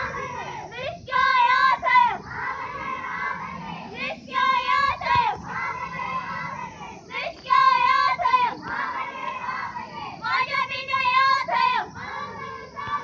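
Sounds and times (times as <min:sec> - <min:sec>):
crowd chanting in unison: 0:00.0 - 0:13.0
girl shouting a slogan: 0:00.0 - 0:13.0.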